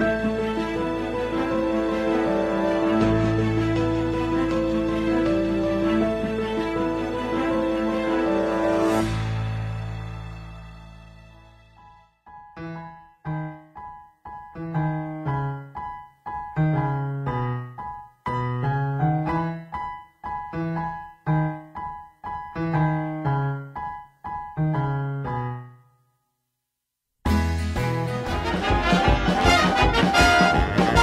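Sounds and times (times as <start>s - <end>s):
bouncy piano-like keyboard music: 0.0s - 26.0s, 27.3s - 31.0s.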